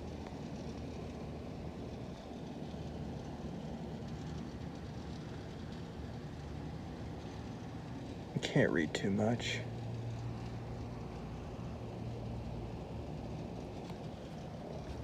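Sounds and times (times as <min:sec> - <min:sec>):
low hum and rumble: 0:00.0 - 0:15.0.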